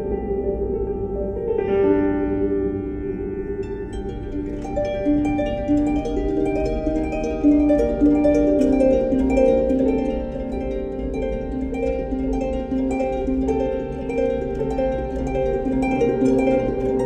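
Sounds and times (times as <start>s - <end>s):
plucked melody: 0.0s - 17.0s
steady low hum: 0.0s - 17.0s.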